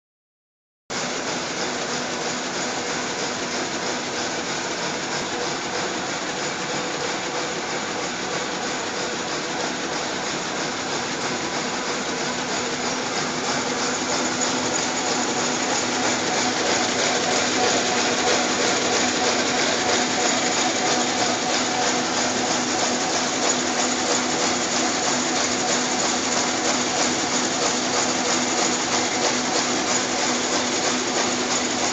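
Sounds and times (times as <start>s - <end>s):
steady machine hum: 1.0s - 31.9s
packing machine clatter: 1.3s - 31.9s.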